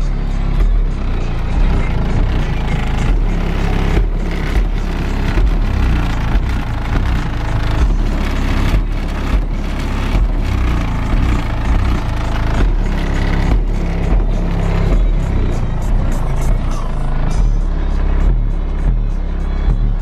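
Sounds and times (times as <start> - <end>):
subwoofer playing bass-heavy music: 0.0 - 20.0.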